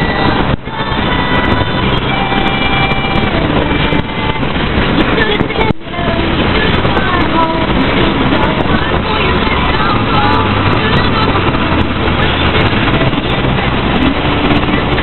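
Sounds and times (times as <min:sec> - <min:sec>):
wind and road noise in car: 0:00.0 - 0:15.0.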